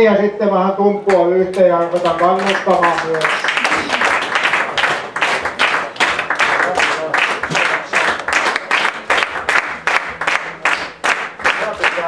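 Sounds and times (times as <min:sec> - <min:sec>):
people clapping in rhythm: 0:01.1 - 0:12.0.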